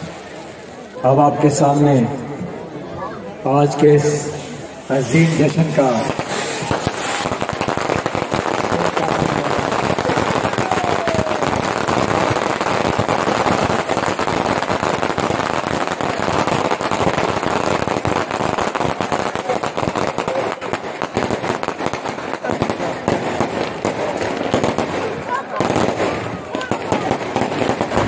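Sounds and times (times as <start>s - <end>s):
firecrackers crackling: 0.0s - 2.0s, 3.4s - 28.0s.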